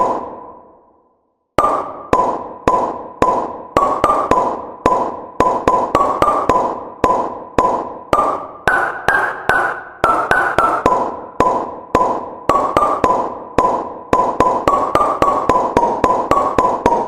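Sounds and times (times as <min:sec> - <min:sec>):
hollow pops with ringing tone: 0:01.6 - 0:17.0.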